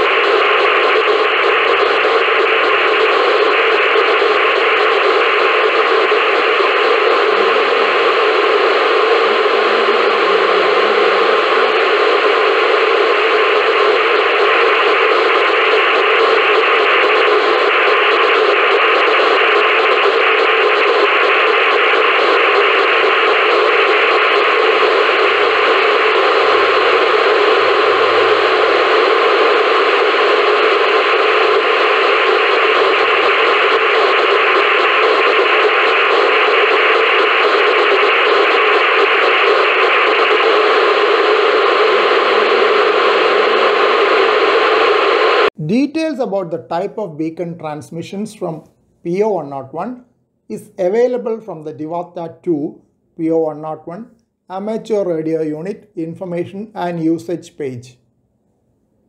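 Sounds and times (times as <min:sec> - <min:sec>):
radio static hiss: 0:00.0 - 0:58.0.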